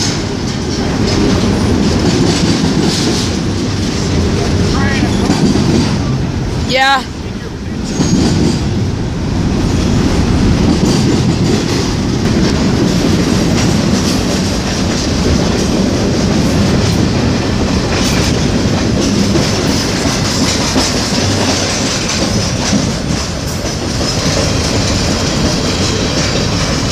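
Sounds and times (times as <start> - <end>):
wheels clacking over rail joints: 0.0 - 6.7, 7.6 - 8.9, 9.6 - 26.9
freight train rumbling past: 0.0 - 26.9.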